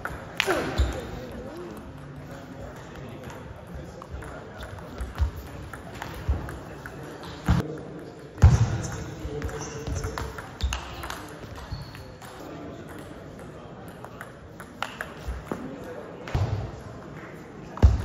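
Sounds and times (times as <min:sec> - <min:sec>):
voices in sports hall: 0:00.0 - 0:18.0.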